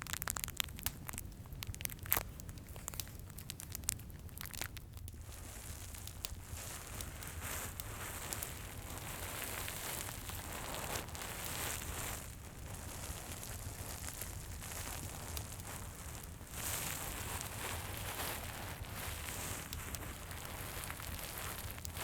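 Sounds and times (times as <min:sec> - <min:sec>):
crinkly plastic crackling when squeezed: 0:00.0 - 0:22.0
fireplace crackle: 0:00.0 - 0:22.0.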